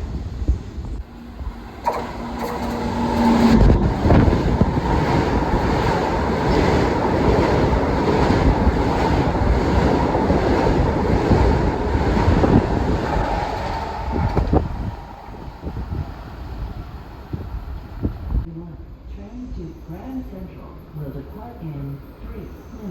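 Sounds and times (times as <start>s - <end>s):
train wheels rushing on rails: 0.0s - 18.5s.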